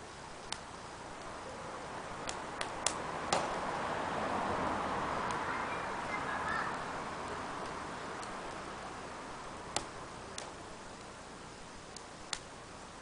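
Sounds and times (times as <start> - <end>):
burning wood crackling pops: 0.0 - 4.2, 5.2 - 5.5, 6.1 - 13.0
wood fire hissing: 0.0 - 13.0.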